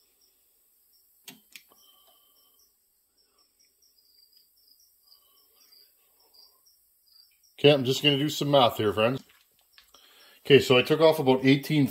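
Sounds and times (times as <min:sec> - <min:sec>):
crickets chirping: 0:00.0 - 0:10.6.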